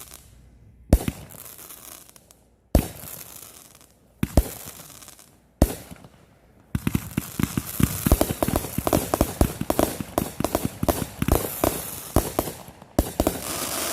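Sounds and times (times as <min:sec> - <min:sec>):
fireworks banging: 0:00.0 - 0:13.9
fireworks crackling pops: 0:00.0 - 0:13.9.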